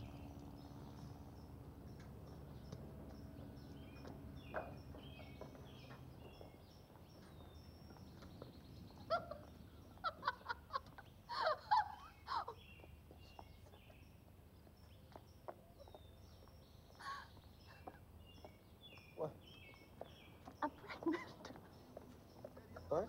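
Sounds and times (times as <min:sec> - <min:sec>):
birds chirping: 0:00.0 - 0:23.0
faint background hum: 0:00.0 - 0:23.0.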